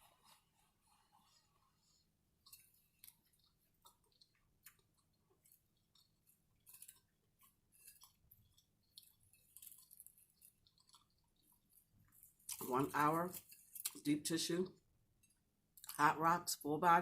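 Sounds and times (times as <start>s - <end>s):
chewing food: 0.0s - 16.1s.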